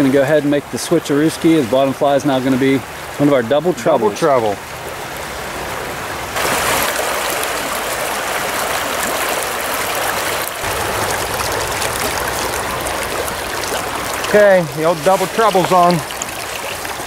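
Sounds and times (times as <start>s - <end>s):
stream flowing over stones: 0.0s - 17.0s.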